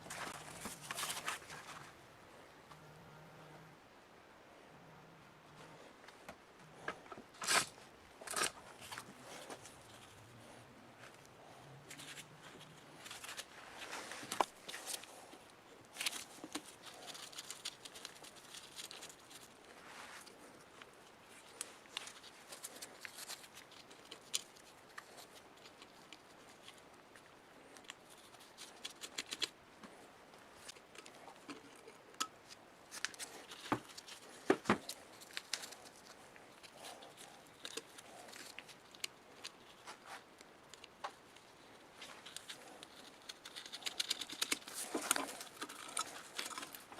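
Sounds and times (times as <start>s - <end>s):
hand work on small metal parts: 6.7s - 46.9s.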